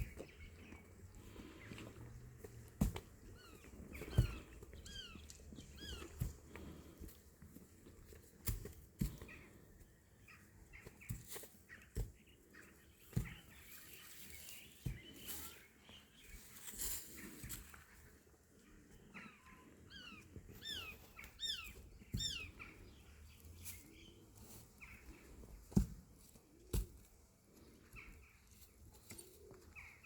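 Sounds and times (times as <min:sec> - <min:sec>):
small birds chirping: 0:00.0 - 0:07.1, 0:09.0 - 0:18.0, 0:18.6 - 0:25.8, 0:27.5 - 0:30.0.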